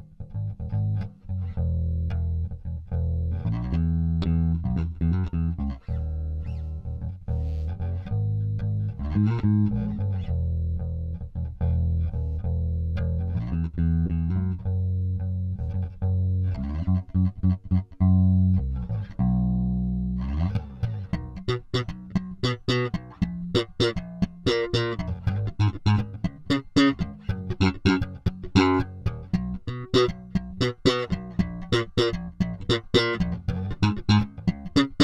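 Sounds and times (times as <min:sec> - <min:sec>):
electric bass plucked notes: 0:00.0 - 0:35.0.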